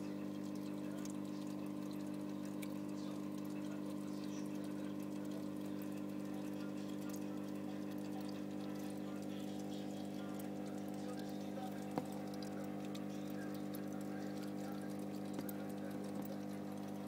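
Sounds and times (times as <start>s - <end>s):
aquarium pump humming: 0.0s - 17.0s
water noise: 0.0s - 17.0s.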